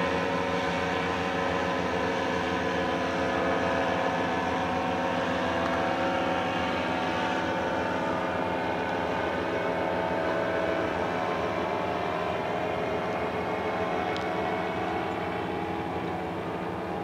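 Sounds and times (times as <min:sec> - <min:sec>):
paraglider engine and propeller droning: 0:00.0 - 0:17.0.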